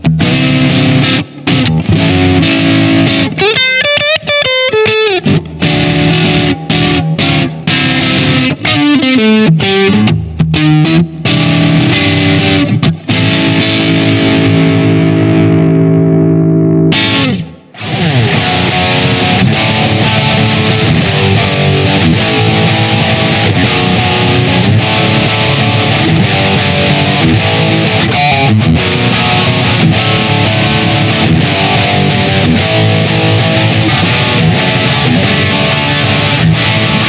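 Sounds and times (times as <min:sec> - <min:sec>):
distorted electric guitar riffing: 0:00.0 - 0:37.0.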